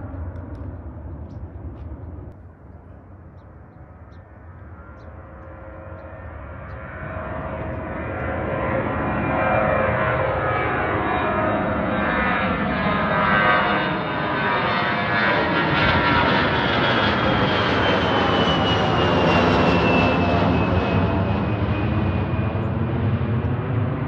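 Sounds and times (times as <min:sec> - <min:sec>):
airplane passing low overhead: 0:00.0 - 0:24.0
high engine whine: 0:00.0 - 0:24.0.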